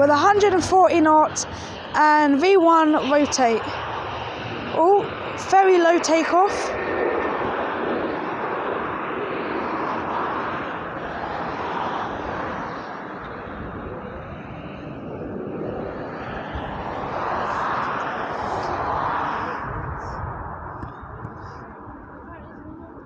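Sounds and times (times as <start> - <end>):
jet engine roar of climbing plane: 0.0 - 23.0.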